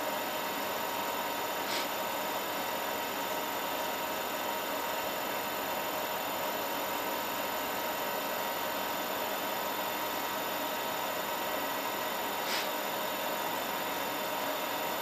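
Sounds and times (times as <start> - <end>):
water pump humming and hissing: 0.0 - 15.0.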